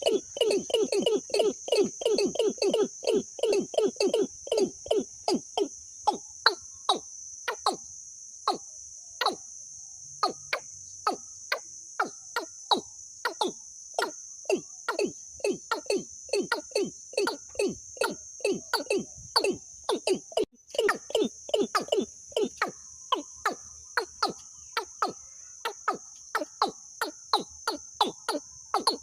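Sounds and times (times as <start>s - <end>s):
high-pitched insect trill: 0.0s - 29.0s.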